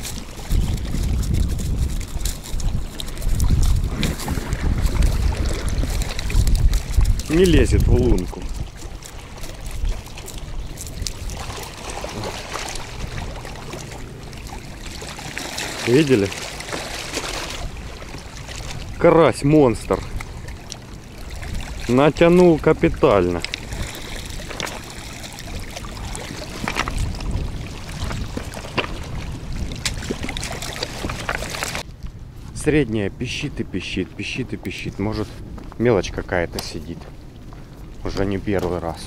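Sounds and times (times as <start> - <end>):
low wind rumble on microphone: 0.0 - 15.0, 17.4 - 39.0
water splashing and dripping: 0.0 - 31.9.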